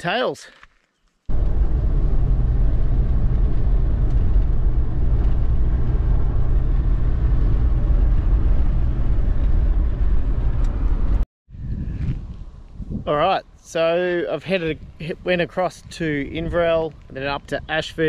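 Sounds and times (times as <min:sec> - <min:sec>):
road and wind noise rumble: 0:01.3 - 0:18.0.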